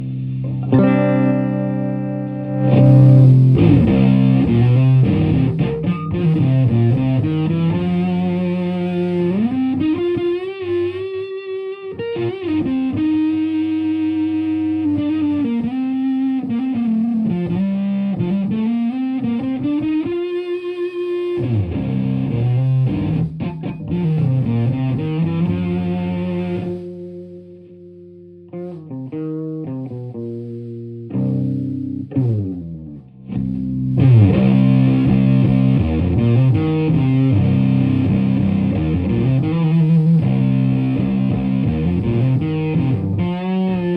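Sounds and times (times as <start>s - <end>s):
electric guitar with bends: 0.0s - 43.9s.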